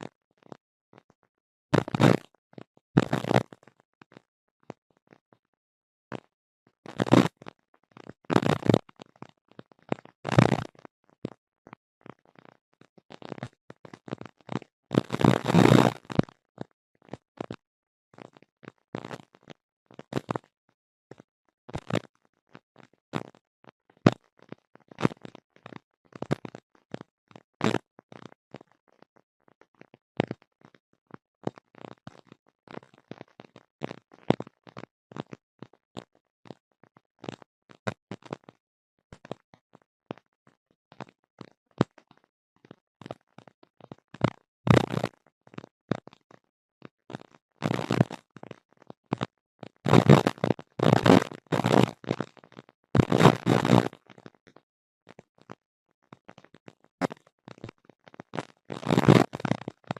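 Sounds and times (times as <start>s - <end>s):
crackling clicks and pops: 0.0s - 59.9s.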